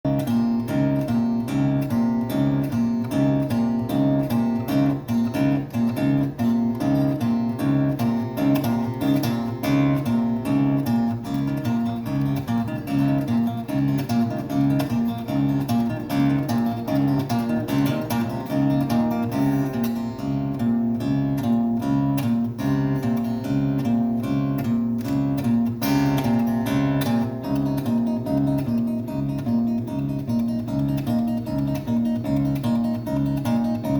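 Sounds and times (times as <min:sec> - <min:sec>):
acoustic guitar picking: 0:00.1 - 0:33.9.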